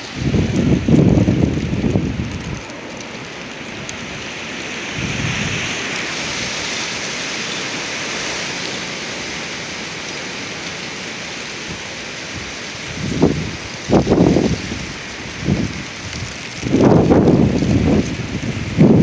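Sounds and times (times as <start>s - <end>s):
wind buffeting microphone: 0.0s - 19.0s
wind gusts through trees: 0.0s - 19.0s.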